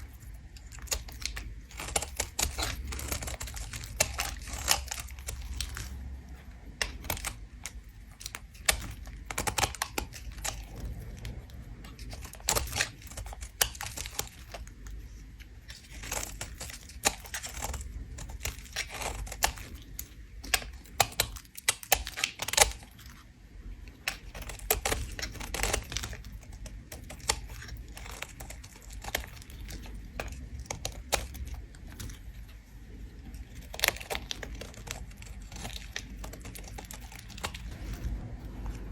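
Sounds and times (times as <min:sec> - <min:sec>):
soap being scraped crackling: 0:00.0 - 0:38.9.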